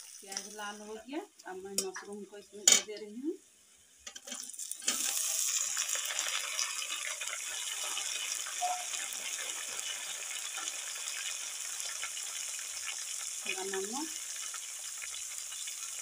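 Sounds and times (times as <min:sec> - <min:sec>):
mushrooms sizzling in hot oil: 0:00.0 - 0:16.0.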